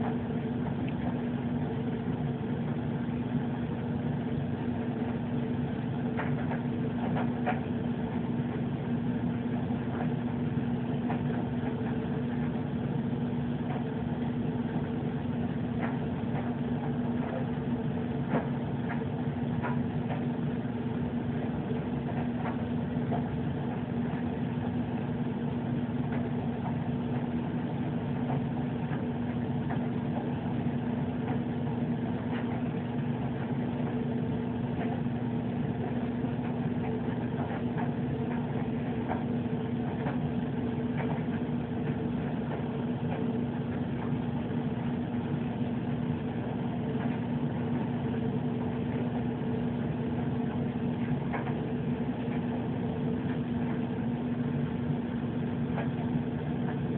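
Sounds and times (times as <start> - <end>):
low steady hum: 0.0 - 56.9.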